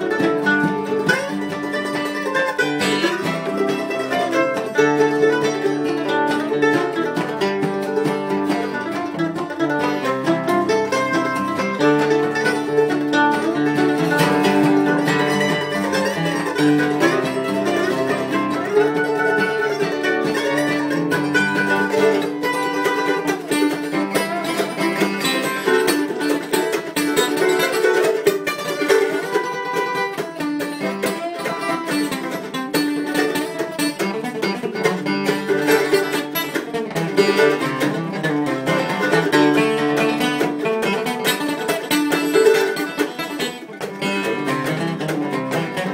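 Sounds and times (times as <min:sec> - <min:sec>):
acoustic guitar strumming: 0:00.0 - 0:45.9
mandolin picking quick notes: 0:00.0 - 0:45.9.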